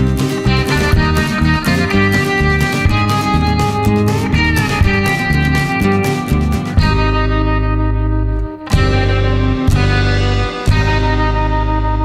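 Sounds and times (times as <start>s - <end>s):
fiddle melody: 0.0s - 12.0s
steady bass beat: 0.0s - 12.0s
strummed guitar: 0.0s - 12.0s.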